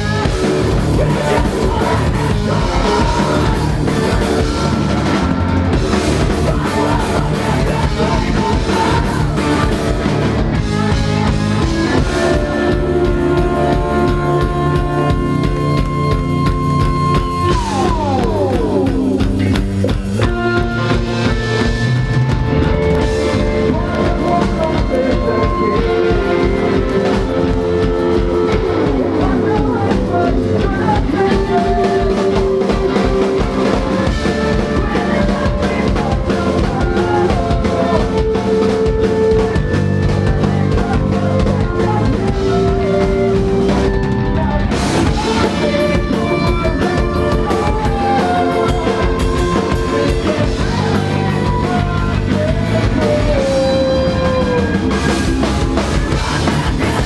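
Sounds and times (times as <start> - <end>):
drum kit beat: 0.0 - 57.0
guitar: 0.0 - 57.0.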